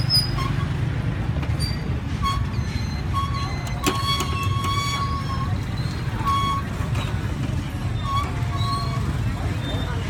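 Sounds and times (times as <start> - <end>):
traffic engines rumbling: 0.0 - 10.0.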